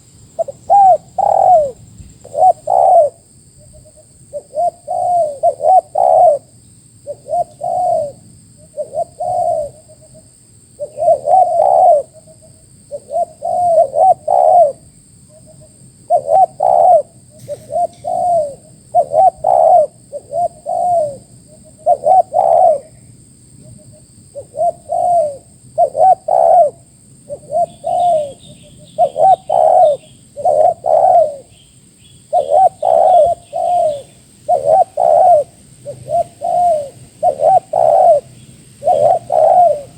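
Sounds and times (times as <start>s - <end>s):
dove cooing: 0.0s - 23.0s, 23.6s - 39.9s.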